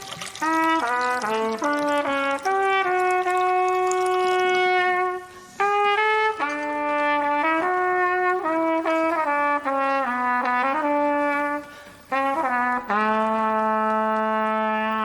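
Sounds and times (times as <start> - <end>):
trumpet playing solo melody: 0.0 - 15.0.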